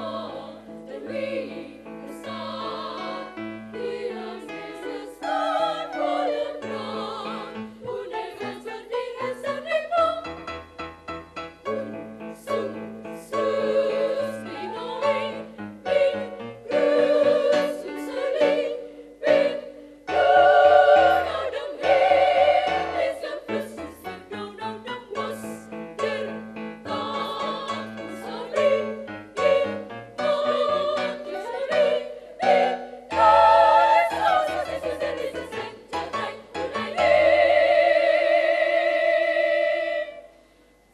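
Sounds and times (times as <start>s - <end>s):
women's choir singing: 0.0s - 10.4s, 11.6s - 40.4s.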